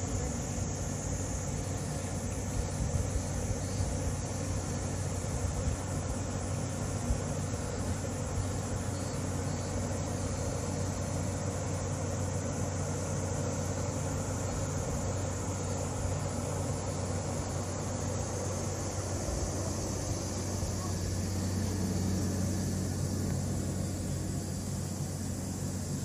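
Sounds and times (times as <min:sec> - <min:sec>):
ventilation blower humming: 0:00.0 - 0:26.0.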